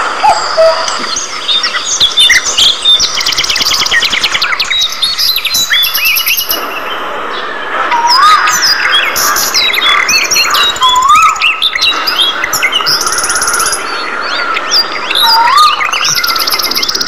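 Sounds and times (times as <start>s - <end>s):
budgerigars chattering: 0.2s - 17.0s.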